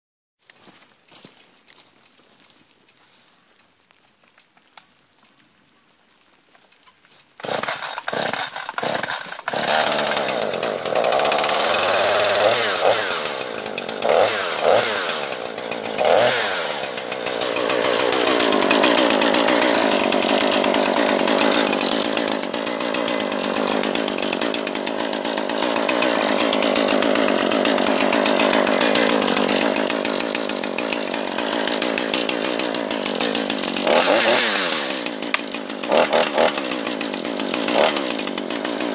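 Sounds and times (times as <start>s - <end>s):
chainsaw starting and revving: 7.4s - 38.9s.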